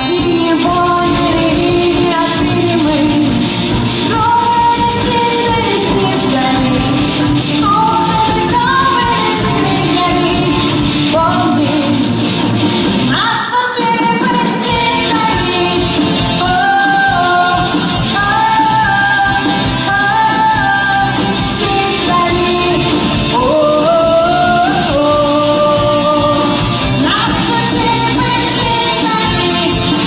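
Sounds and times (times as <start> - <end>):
person singing: 0.0 - 12.5, 13.1 - 30.0
rock band playing: 0.0 - 30.0.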